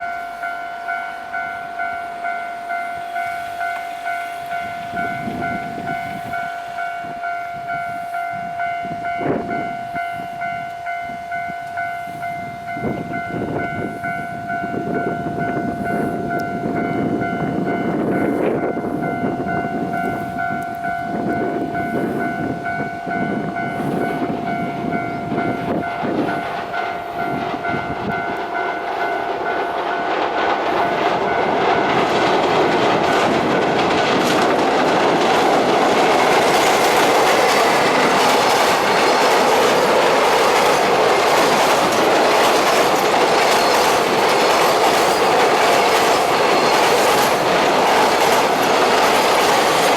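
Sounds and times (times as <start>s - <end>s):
freight train rumble and wheel clatter: 0.0s - 49.9s.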